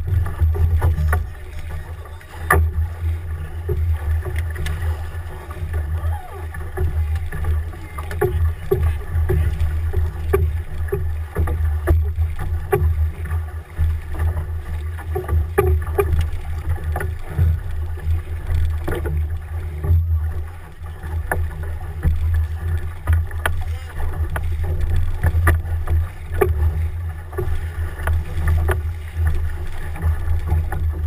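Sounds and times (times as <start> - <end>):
canoe knocks: 0.0 - 19.2, 19.8 - 31.0.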